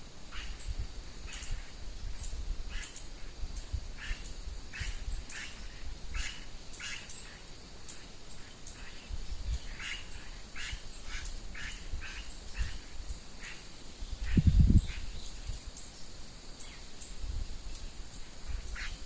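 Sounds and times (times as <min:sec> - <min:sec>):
high thin bird chirps: 0:00.3 - 0:19.0.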